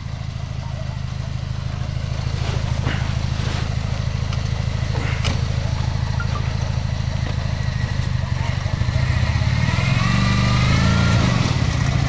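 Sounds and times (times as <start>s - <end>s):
misfiring engine running: 0.0s - 12.0s.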